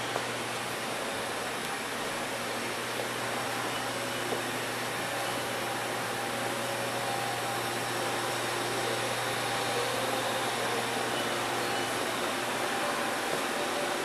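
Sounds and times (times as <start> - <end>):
faint steady tones: 0.0 - 14.0
machine hum and hiss: 0.0 - 14.0.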